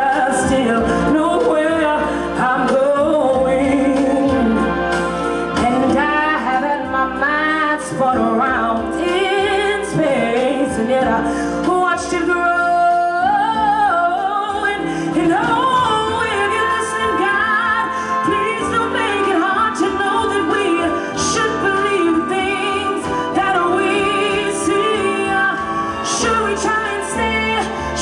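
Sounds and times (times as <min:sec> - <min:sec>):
backing music: 0:00.0 - 0:28.0
woman singing: 0:00.0 - 0:28.0.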